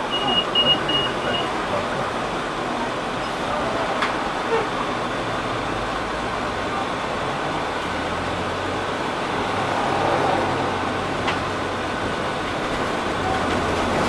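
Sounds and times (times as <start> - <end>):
bus engine drone: 0.0 - 14.0
road and tyre noise: 0.0 - 14.0.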